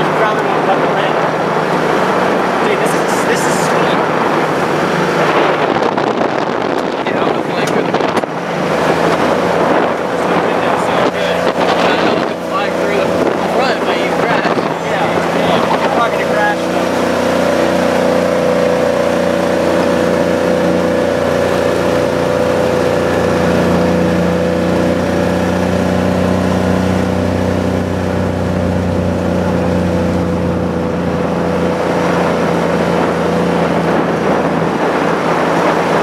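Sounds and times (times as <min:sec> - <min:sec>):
drivetrain whine: 0:00.0 - 0:36.0
utility vehicle engine running: 0:00.0 - 0:36.0.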